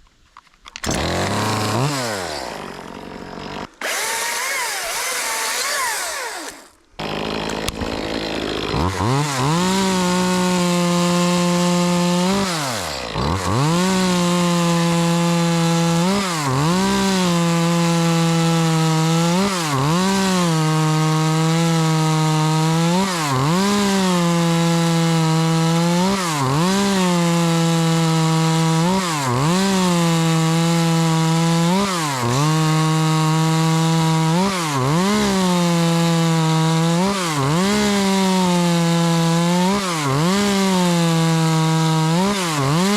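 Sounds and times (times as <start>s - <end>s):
chainsaw cutting wood: 0.6s - 42.9s.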